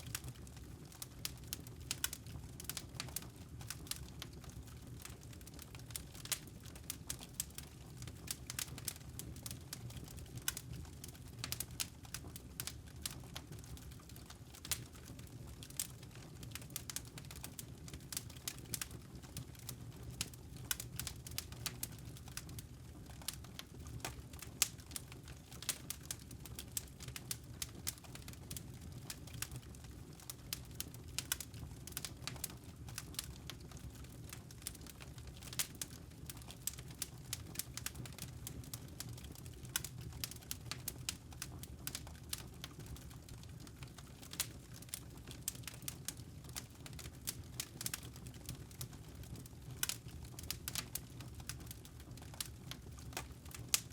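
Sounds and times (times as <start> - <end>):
low rumble of flames: 0.0 - 53.9
wood logs crackling in fire: 0.0 - 53.9.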